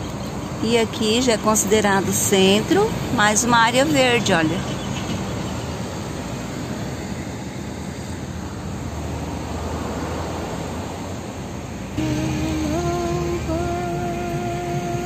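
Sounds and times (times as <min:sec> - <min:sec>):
road and engine noise inside car: 0:00.0 - 0:15.0.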